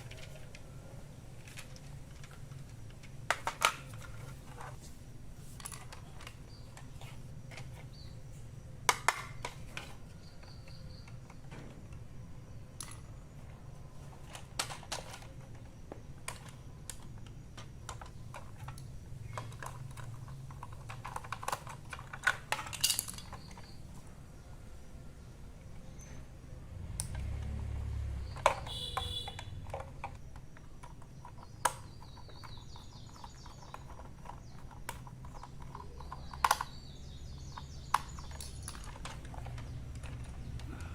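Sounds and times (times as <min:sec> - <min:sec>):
plastic items clicking and knocking: 0:00.0 - 0:04.8, 0:05.5 - 0:24.6, 0:25.5 - 0:40.9.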